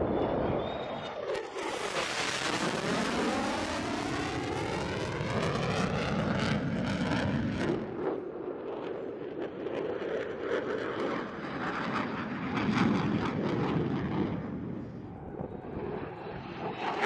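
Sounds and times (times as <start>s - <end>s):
fighter jet passing low: 0.0s - 17.0s.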